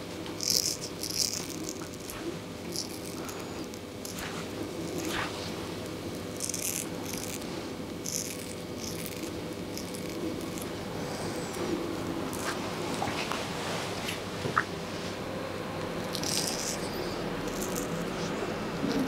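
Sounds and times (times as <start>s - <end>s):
faint steady hum: 0.0s - 19.0s
razor scraping stubble: 0.4s - 13.4s, 16.0s - 19.0s.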